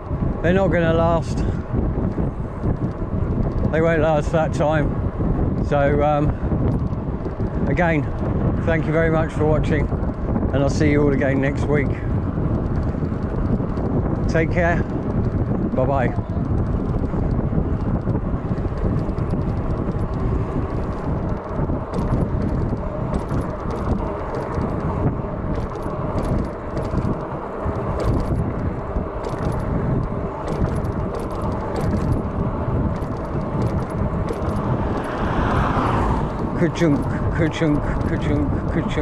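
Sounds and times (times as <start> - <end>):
electric bike rumbling on road: 0.0 - 39.0
light rattling clicks from bike: 0.0 - 39.0.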